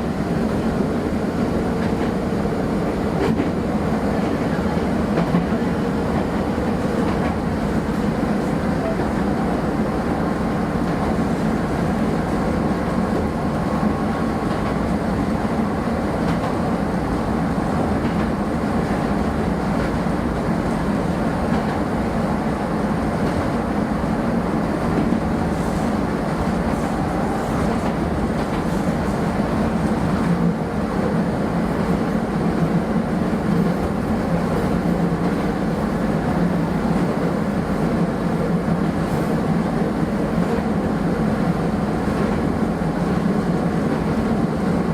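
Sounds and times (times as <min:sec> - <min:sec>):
train rumbling on track: 0:00.0 - 0:44.9.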